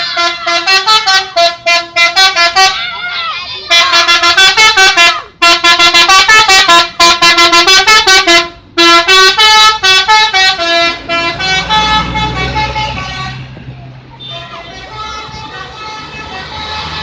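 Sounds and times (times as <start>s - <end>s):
musical bus horn playing a tune: 0.0s - 2.8s, 3.7s - 13.5s, 14.2s - 17.0s.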